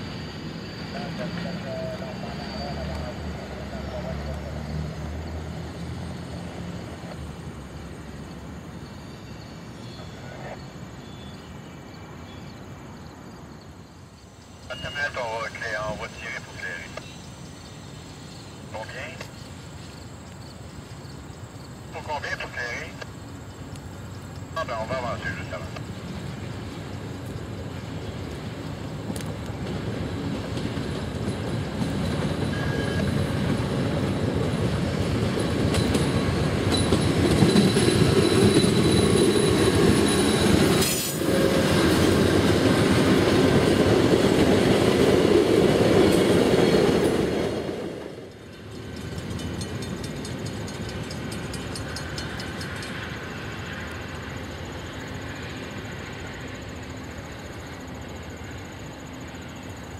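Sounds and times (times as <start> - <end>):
distant train: 0.0 - 59.9
passenger train passing: 0.0 - 59.9.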